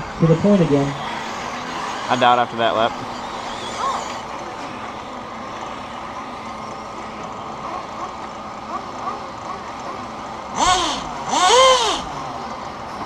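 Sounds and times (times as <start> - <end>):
motor whines accelerating: 0.0 - 13.0
toy trucks racing: 0.0 - 13.0.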